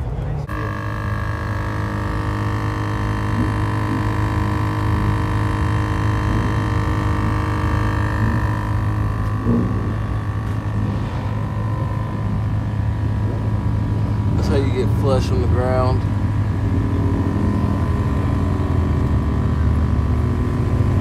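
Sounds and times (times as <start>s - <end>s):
engine humming steadily: 0.0s - 21.0s.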